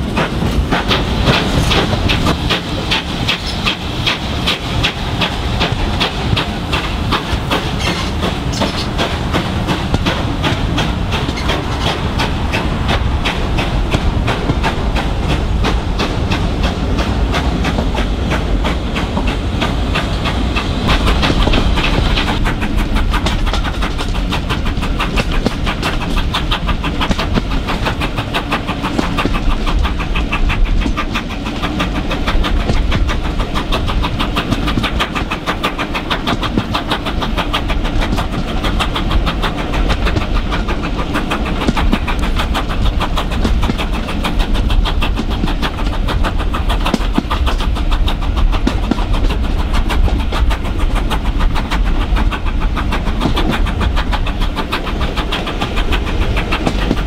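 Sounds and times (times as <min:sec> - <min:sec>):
steam locomotive exhaust beats: 0:00.0 - 0:57.0
train wheels clattering on rails: 0:00.0 - 0:57.0.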